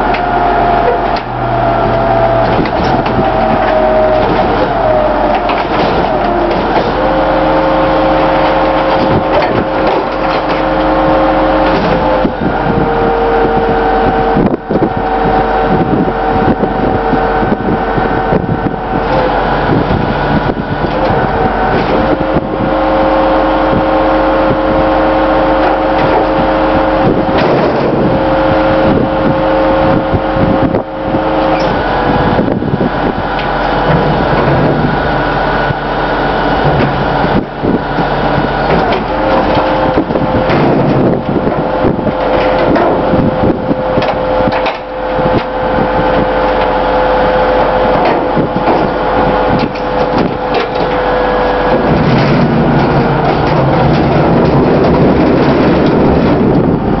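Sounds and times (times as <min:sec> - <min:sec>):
garbage truck engine running: 0:00.0 - 0:57.0
knocks and rattles: 0:00.0 - 0:57.0.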